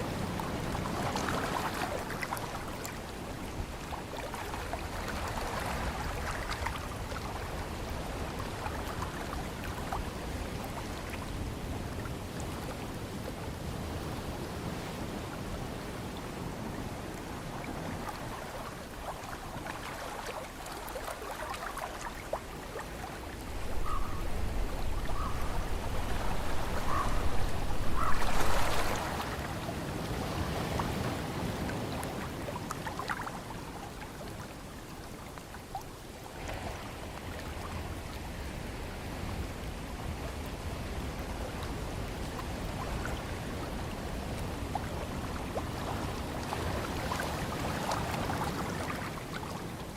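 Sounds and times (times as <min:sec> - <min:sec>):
ocean surf: 0:00.0 - 0:49.9
wind: 0:00.0 - 0:49.9.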